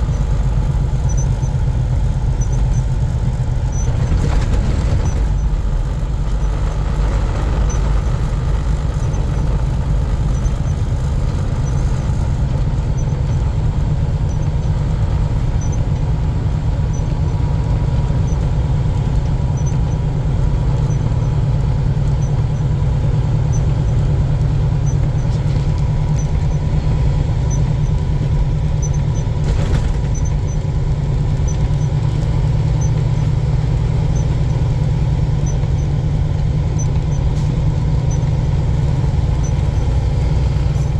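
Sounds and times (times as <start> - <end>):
truck driving drone from cab: 0.0 - 40.9.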